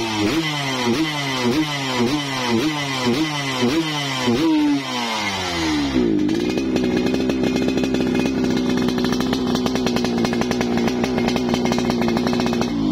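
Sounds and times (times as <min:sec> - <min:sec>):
two-stroke motorcycle engine revving: 0:00.0 - 0:12.9.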